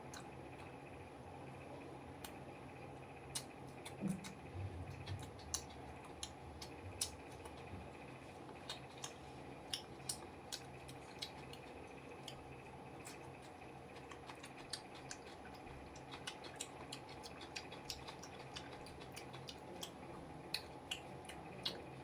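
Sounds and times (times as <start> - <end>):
crisp clicks of eating: 0.0 - 1.0, 2.2 - 22.0
steady low hum: 0.0 - 22.0
person chewing food: 3.2 - 22.0.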